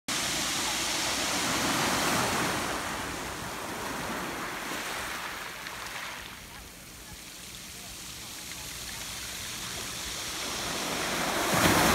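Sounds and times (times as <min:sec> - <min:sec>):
waves washing over pebble beach: 0:00.1 - 0:06.5, 0:07.3 - 0:11.9.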